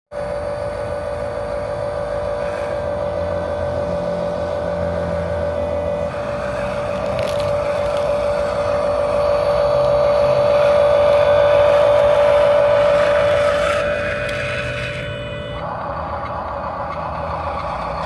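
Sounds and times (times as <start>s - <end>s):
small electric motor whining: 0.2s - 18.0s
high scratching sound: 2.3s - 18.0s.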